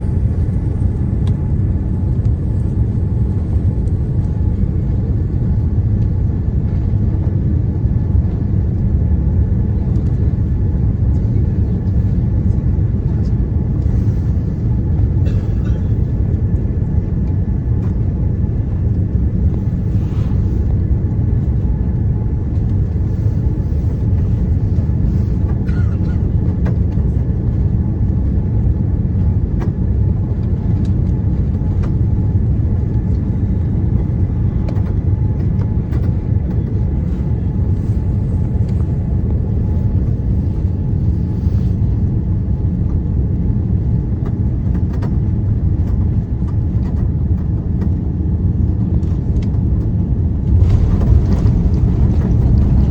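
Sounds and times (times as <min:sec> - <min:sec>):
airliner cabin rumble: 0:00.0 - 0:52.9.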